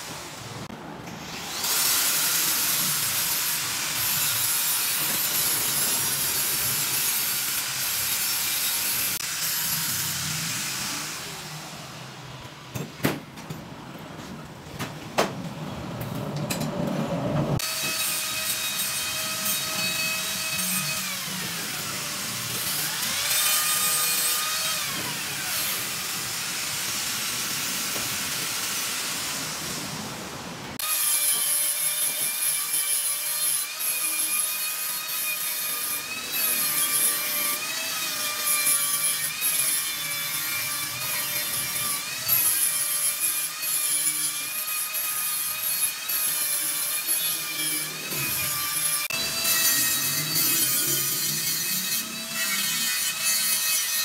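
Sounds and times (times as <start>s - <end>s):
angle grinder grinding metal: 1.2s - 11.7s, 17.6s - 29.8s, 30.8s - 54.0s.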